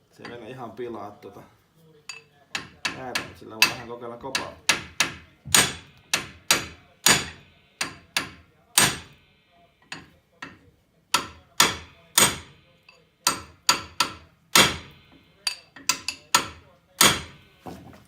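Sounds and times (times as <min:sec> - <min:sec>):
hammer striking metal: 0:02.1 - 0:17.8.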